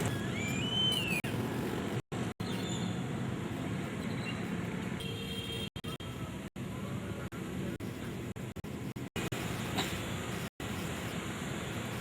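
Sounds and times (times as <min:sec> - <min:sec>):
road traffic rumbling hum: 0:00.0 - 0:12.0.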